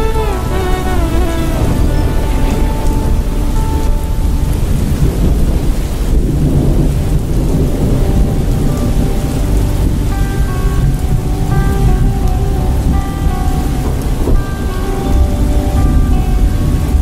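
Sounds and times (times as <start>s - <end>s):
heavy rain: 0.0s - 17.0s
rumble of thunder: 0.0s - 17.0s.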